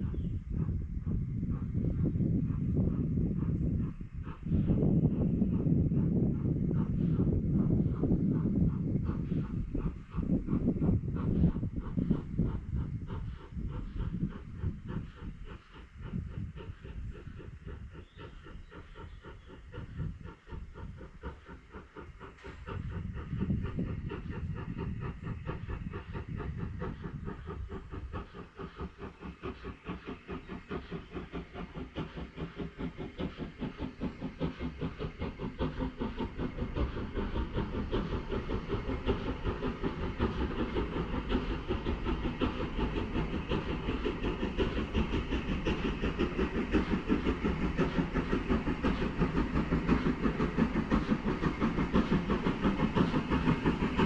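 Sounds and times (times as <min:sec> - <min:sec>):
hiss of steam: 0:00.0 - 0:54.0
steam locomotive exhaust beating: 0:00.0 - 0:54.0.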